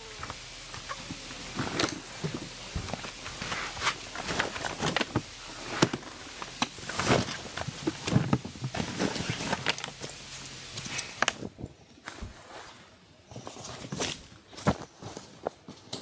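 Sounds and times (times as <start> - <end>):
rustling with clicks and knocks: 0.0 - 16.0.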